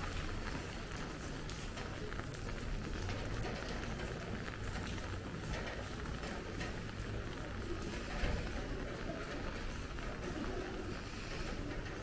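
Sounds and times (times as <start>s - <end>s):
rain pattering on hard surfaces: 0.0s - 12.0s.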